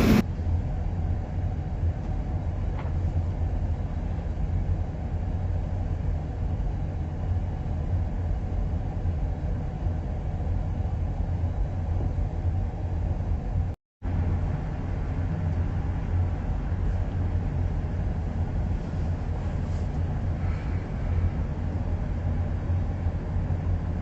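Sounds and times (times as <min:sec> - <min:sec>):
diesel engine deep rumble: 0:00.0 - 0:24.0.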